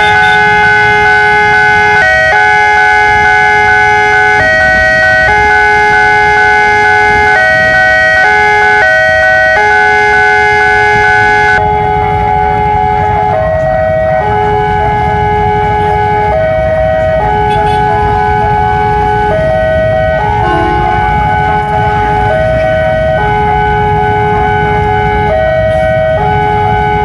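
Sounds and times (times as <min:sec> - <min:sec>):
idling traffic rumble: 0:00.0 - 0:27.0
level crossing warning siren: 0:00.0 - 0:27.0.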